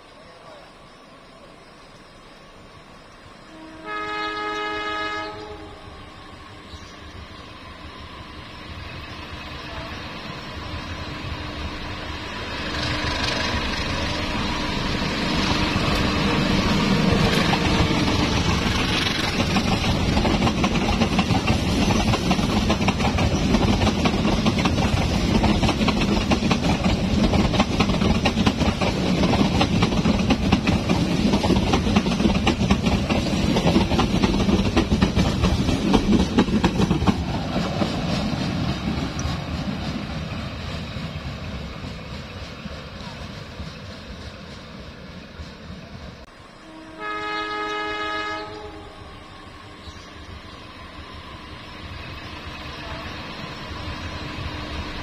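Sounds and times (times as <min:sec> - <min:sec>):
locomotive engine and wheels: 0:00.0 - 0:55.0.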